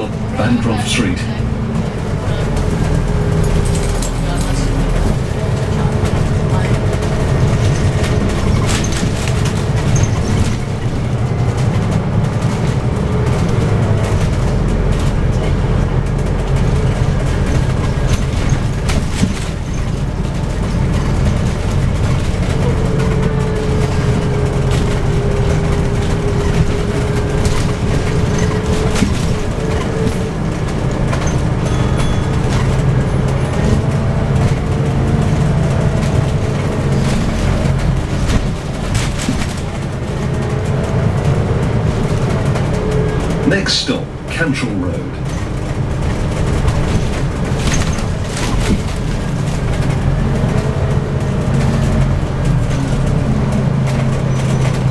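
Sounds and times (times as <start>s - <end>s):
bus engine: 0.0s - 54.9s
rattles and clicks: 1.4s - 54.9s.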